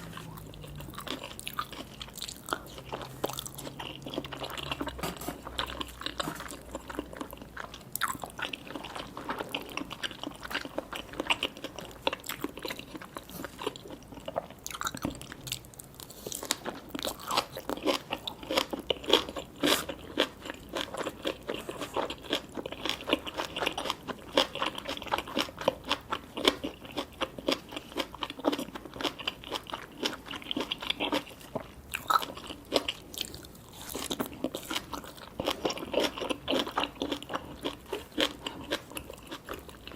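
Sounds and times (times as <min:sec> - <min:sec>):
chewing with crisp crunching: 0:00.0 - 0:39.9.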